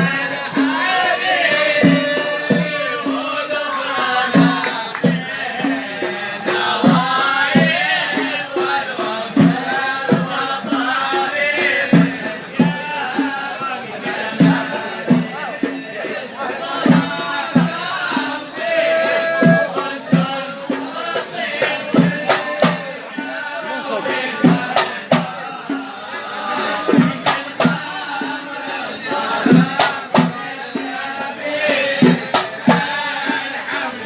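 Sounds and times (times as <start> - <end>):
men chanting: 0.0 - 34.0.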